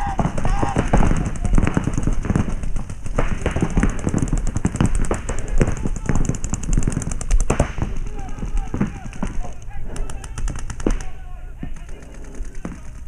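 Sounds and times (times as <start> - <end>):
paintball markers firing: 0.0 - 13.0.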